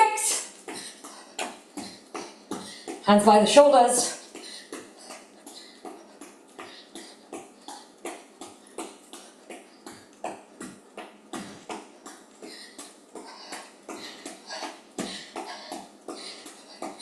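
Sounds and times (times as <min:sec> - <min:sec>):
hard breathing: 0:00.2 - 0:03.1, 0:04.0 - 0:17.0
shoes thudding on exercise mat: 0:00.6 - 0:03.2, 0:04.3 - 0:17.0.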